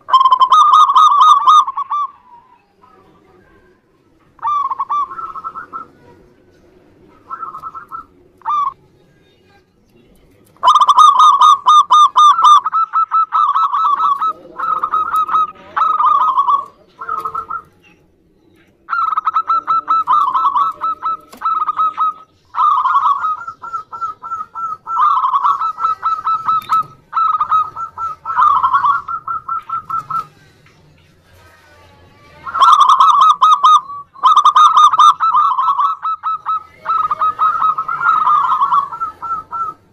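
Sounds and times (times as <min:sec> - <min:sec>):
doves trilling coos: 0:00.0 - 0:08.9, 0:10.5 - 0:30.4, 0:32.4 - 0:39.9.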